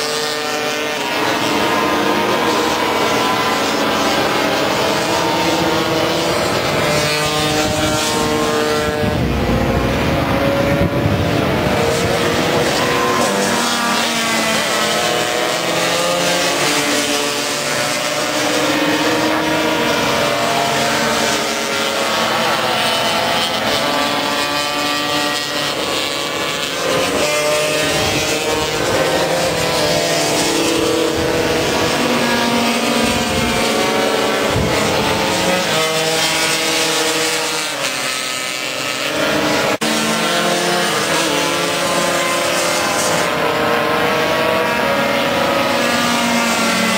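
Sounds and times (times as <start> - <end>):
racing scooter engines passing: 0.0 - 46.9.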